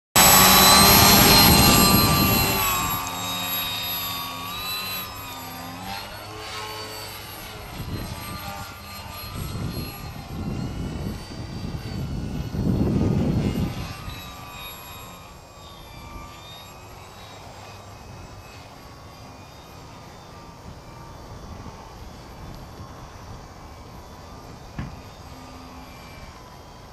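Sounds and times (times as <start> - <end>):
model airplane motor whining: 0.2 - 26.9.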